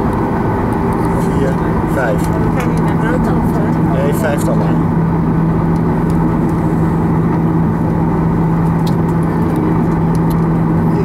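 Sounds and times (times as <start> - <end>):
air-conditioning rush: 0.0 - 11.0
constant low hum: 0.0 - 11.0
jet engines droning: 0.0 - 11.0.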